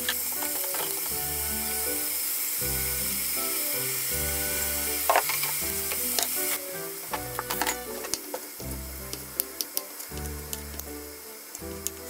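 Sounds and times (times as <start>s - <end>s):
background music: 0.0s - 12.0s
food sizzling in a pot: 0.0s - 12.0s.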